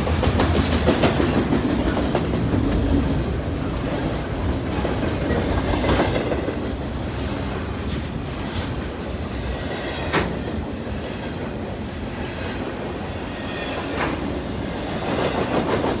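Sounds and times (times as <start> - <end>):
steel wheels rolling on rail: 0.0 - 16.0.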